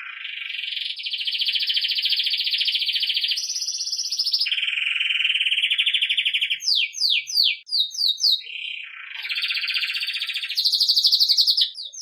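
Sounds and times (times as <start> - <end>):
canary singing rolled trill: 0.0 - 12.0.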